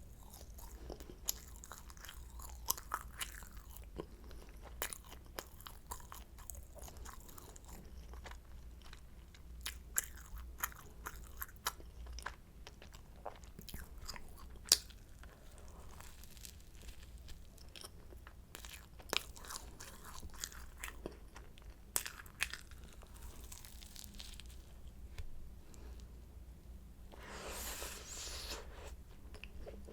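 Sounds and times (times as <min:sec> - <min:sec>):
chewing crisp pastry: 0:00.0 - 0:25.0.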